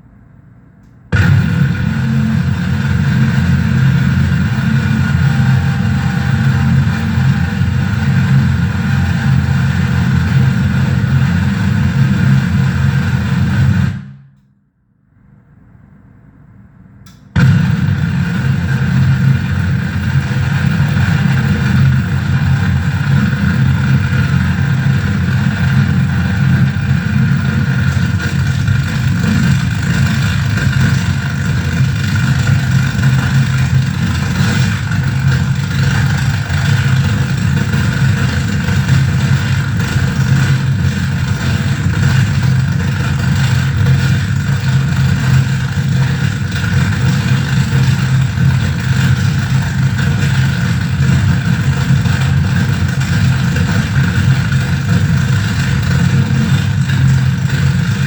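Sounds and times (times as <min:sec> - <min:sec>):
harsh electronic noise: 0:01.1 - 0:14.2, 0:17.4 - 0:58.0.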